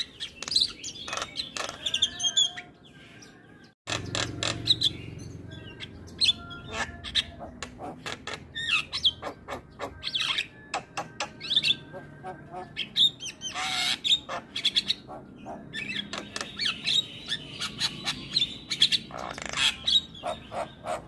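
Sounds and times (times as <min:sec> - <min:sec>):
myna singing: 0:01.0 - 0:21.0.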